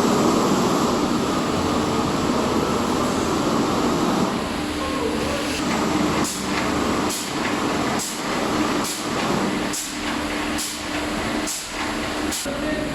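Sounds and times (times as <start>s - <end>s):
heavy machinery hum: 0.0s - 12.9s.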